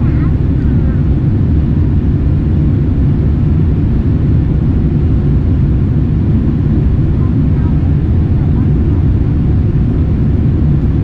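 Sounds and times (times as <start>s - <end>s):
airflow noise in cabin: 0.0s - 11.0s
airliner engine noise: 0.0s - 11.0s.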